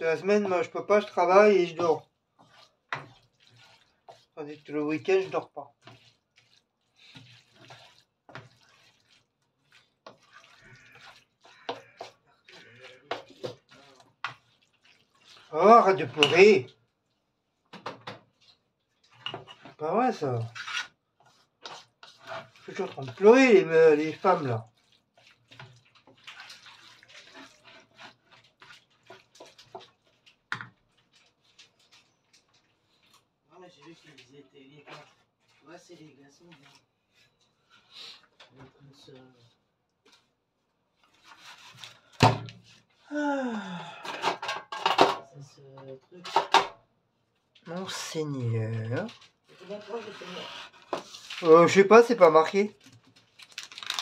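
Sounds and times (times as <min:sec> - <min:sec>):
wet squelching of pasta in sauce: 0:00.0 - 0:38.4, 0:39.1 - 0:43.2, 0:47.0 - 0:54.0.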